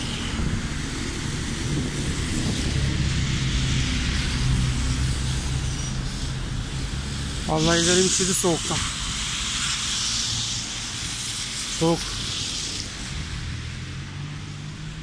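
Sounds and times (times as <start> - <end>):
car passing close by: 0.0 - 15.0
tyres hissing on wet asphalt: 0.0 - 15.0
wind noise on microphone: 0.0 - 15.0.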